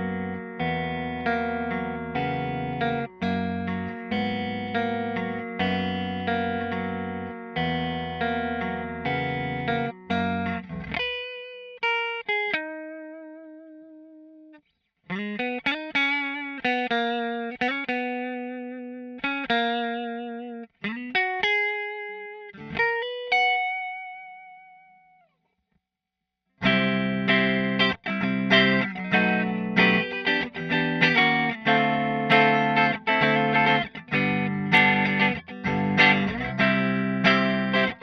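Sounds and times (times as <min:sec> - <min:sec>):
electric guitar playing: 0:00.0 - 0:25.2, 0:26.6 - 0:38.0.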